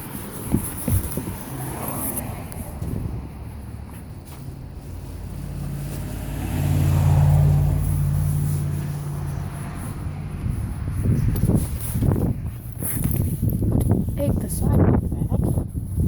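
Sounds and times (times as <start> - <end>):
car passing by: 0.1 - 13.2.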